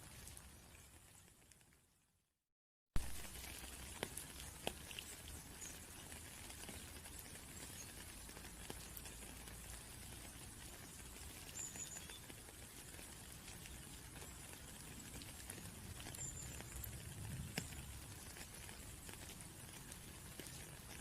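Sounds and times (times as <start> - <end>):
rain pattering: 0.0 - 2.0, 3.0 - 21.0
raindrops tapping sharply: 3.0 - 21.0.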